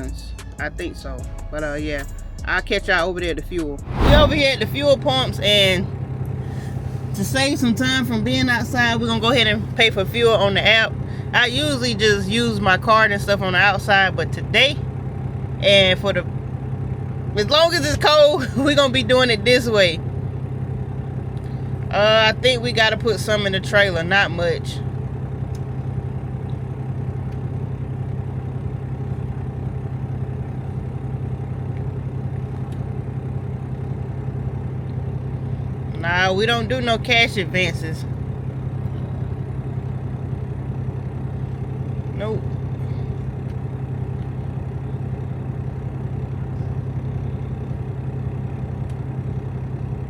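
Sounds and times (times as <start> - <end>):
diesel truck engine idling: 4.6 - 50.0.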